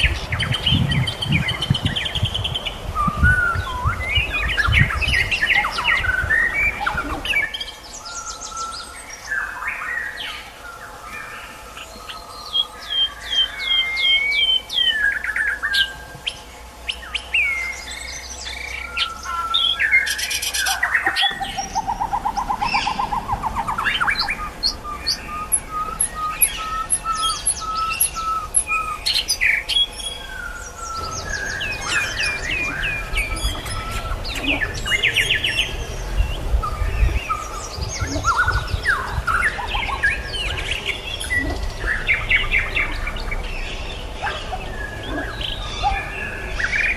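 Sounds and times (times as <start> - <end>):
birds singing: 0.0 - 46.9.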